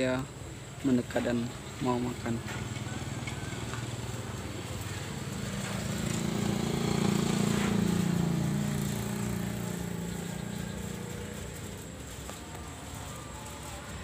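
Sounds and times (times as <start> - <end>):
small engine passing by: 2.0 - 14.0.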